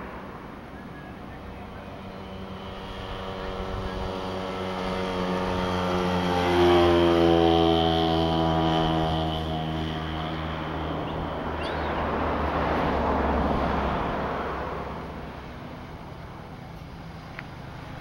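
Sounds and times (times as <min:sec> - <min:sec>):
engine passing by: 0:00.0 - 0:18.0
steady low engine hum: 0:00.0 - 0:18.0.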